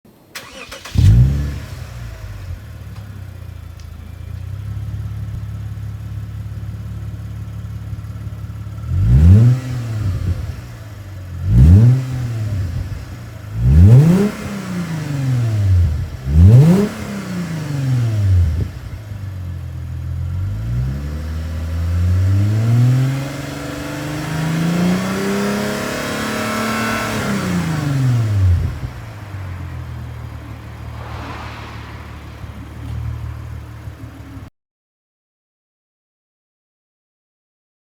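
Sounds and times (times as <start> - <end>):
car engine idling and revving: 0.1 - 34.5.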